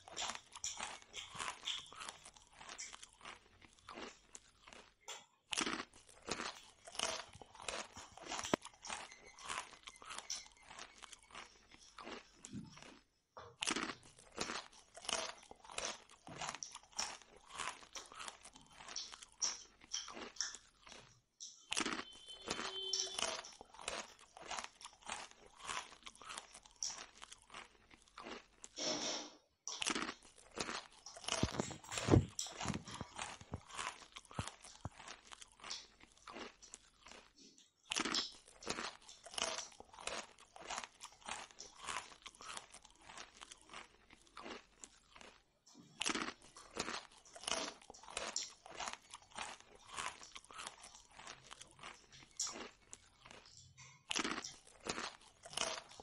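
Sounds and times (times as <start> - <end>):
person chewing crunchy food: 0.0 - 29.0, 29.6 - 56.0.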